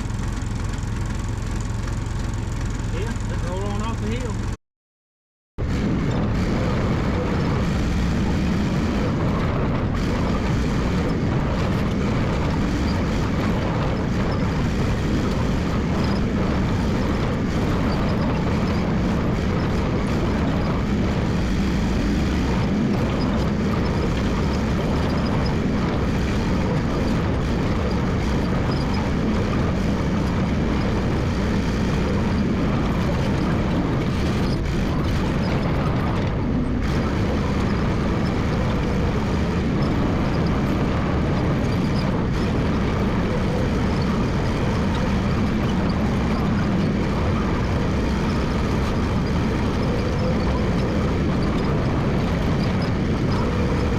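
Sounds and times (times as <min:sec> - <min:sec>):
dozer engine running: 0:00.0 - 0:04.6, 0:05.6 - 0:53.9.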